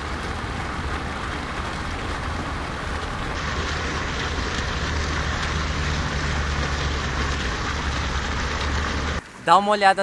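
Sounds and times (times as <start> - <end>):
fountain splashing into pond: 0.0 - 10.0.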